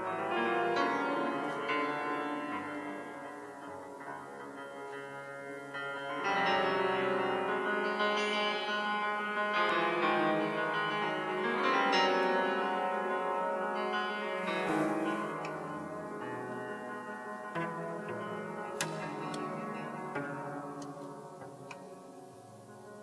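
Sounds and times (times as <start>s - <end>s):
cello tones: 0.0s - 23.0s
piano notes and chords: 0.0s - 23.0s.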